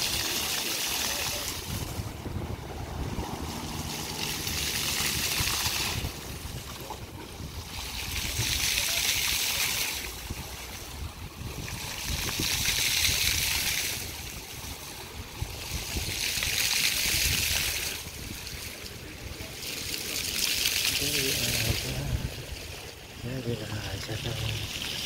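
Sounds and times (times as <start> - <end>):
fountain jets splashing on paving: 0.0 - 25.0.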